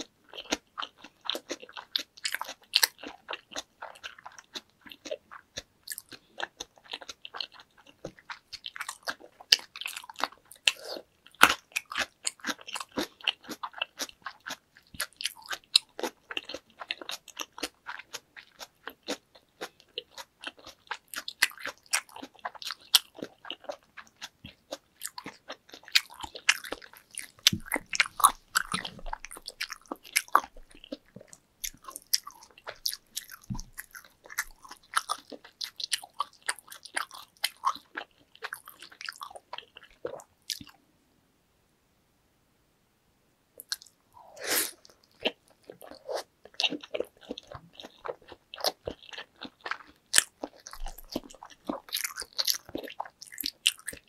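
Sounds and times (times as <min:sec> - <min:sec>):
wet chewing and mouth clicks: 0:00.0 - 0:40.8, 0:43.6 - 0:54.0.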